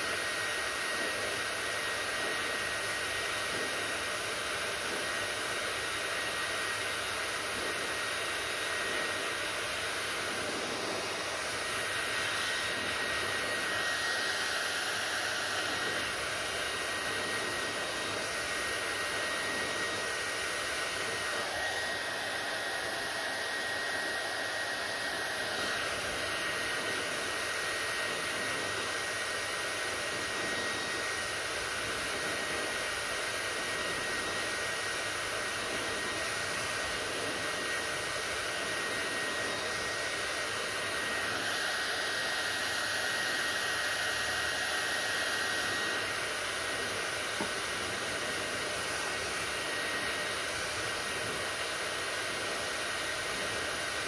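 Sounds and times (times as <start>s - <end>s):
hair dryer blowing: 0.0s - 54.0s.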